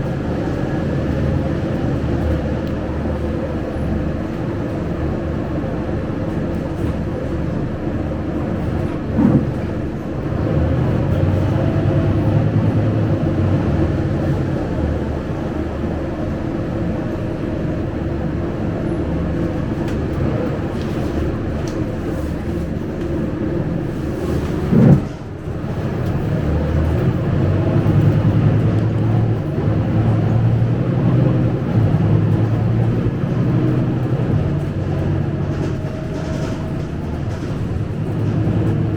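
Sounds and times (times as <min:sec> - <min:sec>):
bus diesel engine running: 0:00.0 - 0:38.9
road and body rumble: 0:00.0 - 0:38.9.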